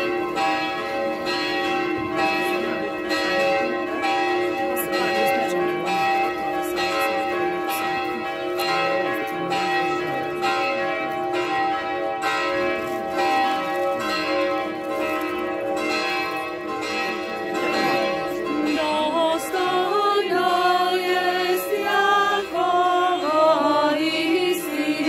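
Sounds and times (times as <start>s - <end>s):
church bells pealing: 0.0s - 25.0s.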